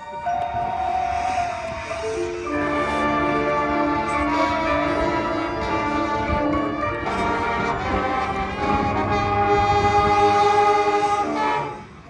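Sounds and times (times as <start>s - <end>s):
brass band playing chords: 0.1s - 12.0s.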